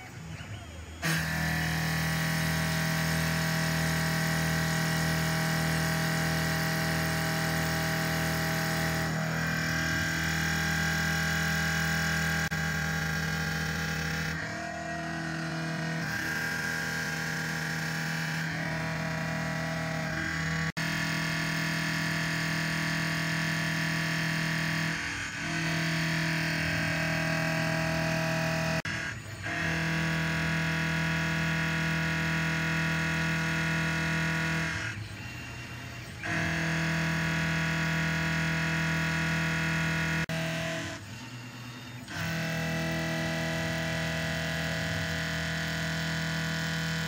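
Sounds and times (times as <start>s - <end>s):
cnc machine motor and spindle whine: 0.0s - 47.0s.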